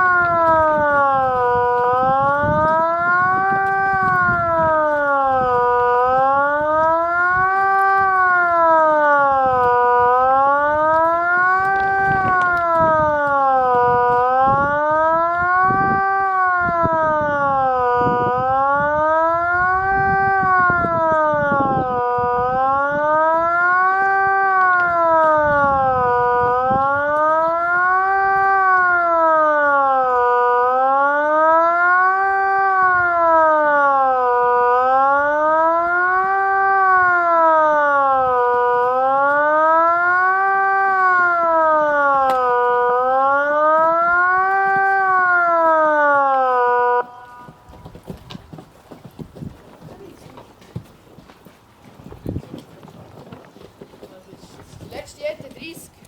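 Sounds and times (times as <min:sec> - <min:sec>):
siren wailing rising and falling: 0:00.0 - 0:48.1.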